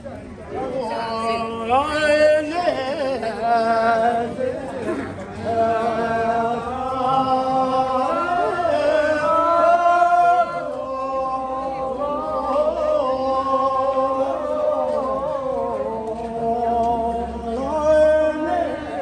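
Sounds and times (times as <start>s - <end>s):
group singing a slow folk song: 0.6s - 19.0s.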